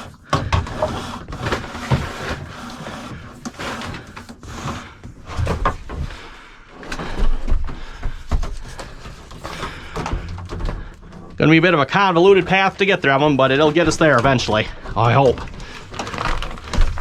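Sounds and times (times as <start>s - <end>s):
cable rustling and scraping: 0.0s - 7.2s, 8.3s - 17.0s.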